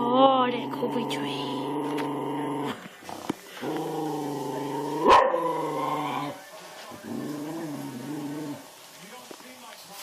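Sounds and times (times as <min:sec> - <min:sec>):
dog growling: 0:00.0 - 0:08.7.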